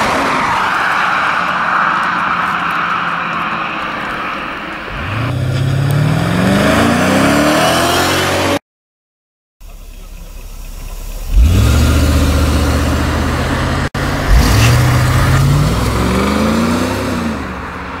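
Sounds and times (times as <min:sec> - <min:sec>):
car engine at full throttle: 0:02.4 - 0:08.6, 0:09.6 - 0:18.0.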